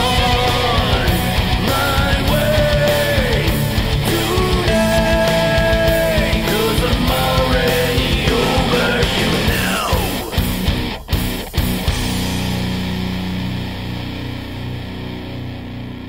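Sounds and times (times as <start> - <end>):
electric guitar lead bending notes: 0.0 - 16.0
rock drums and bass: 0.0 - 16.0.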